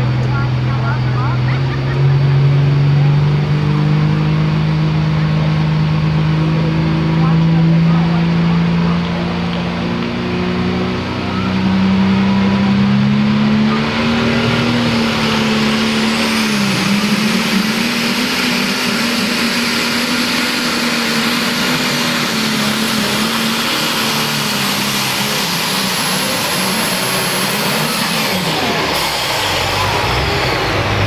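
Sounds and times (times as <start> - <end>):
tractor engine at full throttle: 0.0 - 31.0.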